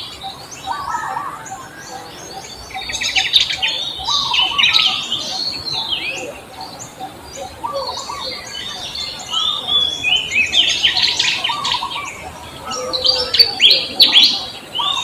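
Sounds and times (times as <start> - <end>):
many birds chirping: 0.0 - 15.0.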